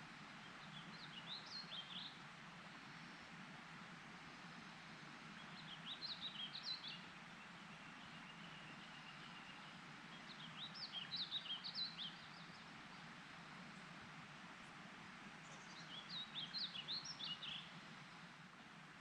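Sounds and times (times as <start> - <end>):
steady outdoor hiss: 0.0 - 19.0
songbird chirping: 0.3 - 3.3, 4.2 - 18.4.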